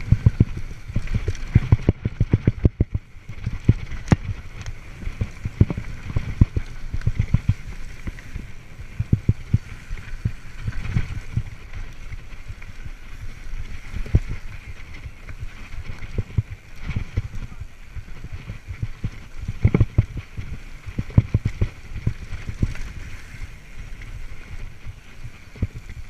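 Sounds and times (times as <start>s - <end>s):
mountain bike rattling over dirt: 0.0s - 26.0s
wind rushing on microphone: 0.0s - 26.0s.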